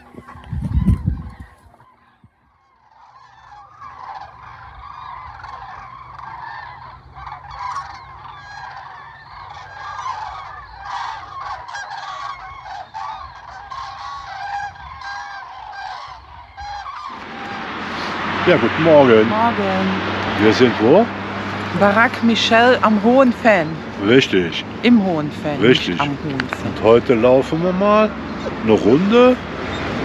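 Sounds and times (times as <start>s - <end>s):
cranes calling: 0.0s - 30.0s
low steady rumble: 2.8s - 30.0s.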